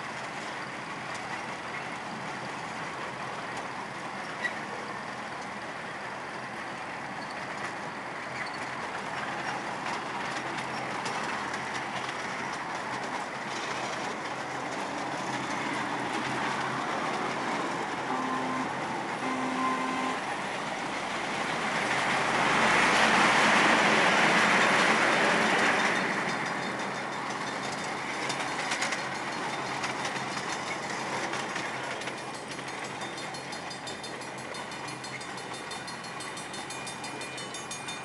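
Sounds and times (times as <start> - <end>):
sharp clicks of train wheels: 0.0 - 38.0
train wheels rolling on rails: 0.0 - 38.0.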